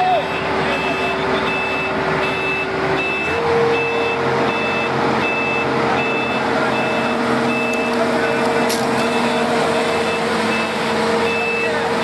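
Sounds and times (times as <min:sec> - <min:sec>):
combine harvester droning: 0:00.2 - 0:12.0
short high warning beeps: 0:00.3 - 0:11.8.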